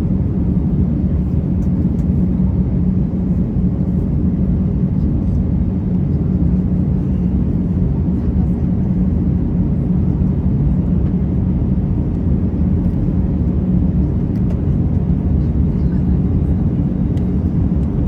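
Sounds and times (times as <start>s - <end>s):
aircraft engine drone in cabin: 0.0s - 18.0s.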